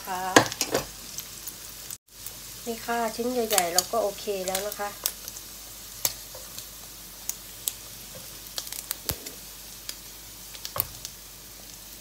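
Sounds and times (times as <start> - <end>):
pork frying with sizzle and pops: 0.0 - 12.0.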